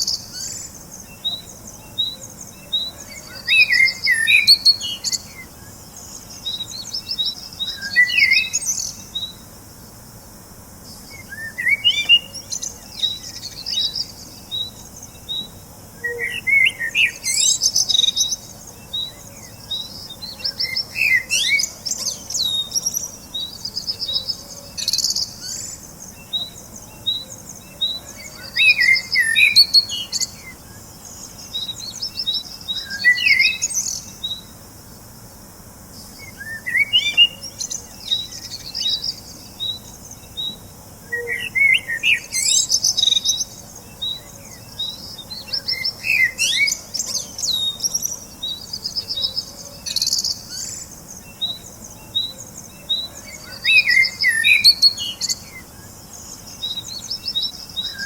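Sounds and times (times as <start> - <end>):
bird warbling song: 0.0 - 9.5, 10.9 - 34.6, 36.0 - 58.0.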